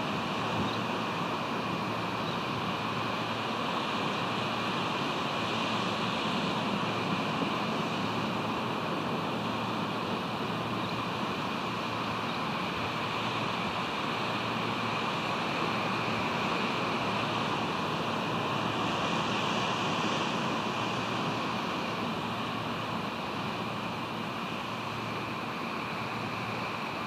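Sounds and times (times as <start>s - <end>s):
ocean surf hissing: 0.0s - 27.0s.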